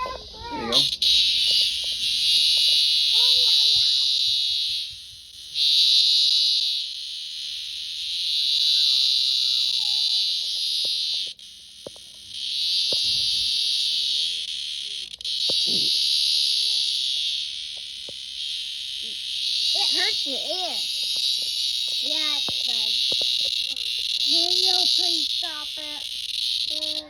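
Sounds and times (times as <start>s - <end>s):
cicada distress buzz: 0.0s - 27.0s.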